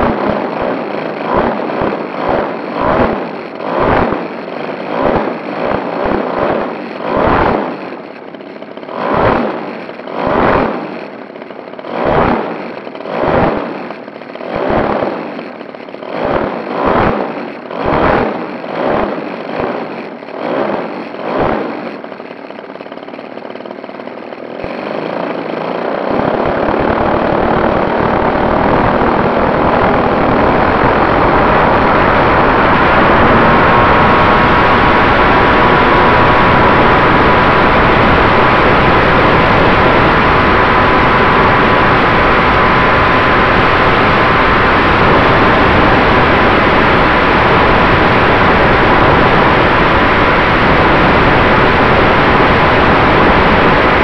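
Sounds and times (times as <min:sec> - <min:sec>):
model plane engine and propeller: 0:00.0 - 0:54.0.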